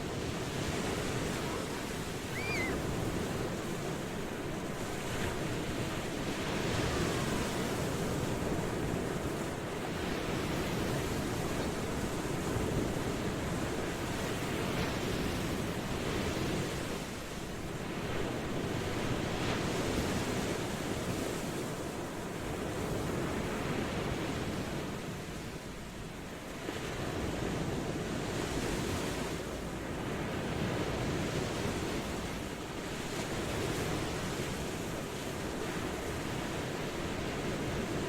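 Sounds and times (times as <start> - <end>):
ocean waves washing ashore: 0.0 - 38.0.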